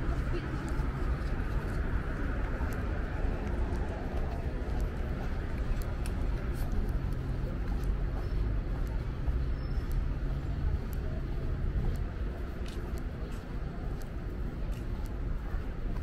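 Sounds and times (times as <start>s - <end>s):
vehicle engine hum and road rumble: 0.0s - 16.0s
faint ticks: 2.4s - 16.0s.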